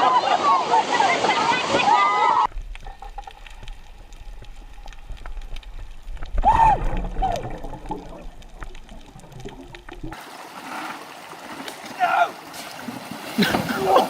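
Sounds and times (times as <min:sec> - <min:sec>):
water splashing and trickling: 0:00.8 - 0:14.0.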